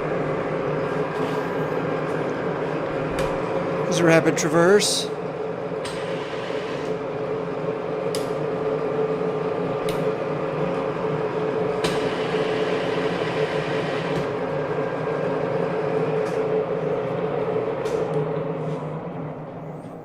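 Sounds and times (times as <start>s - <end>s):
milling machine humming and whining: 0.0s - 4.5s, 5.1s - 20.0s.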